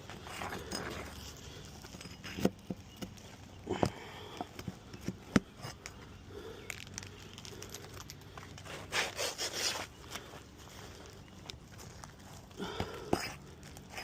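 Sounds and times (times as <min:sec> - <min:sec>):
rough scraping and crinkling: 0:00.0 - 0:14.0.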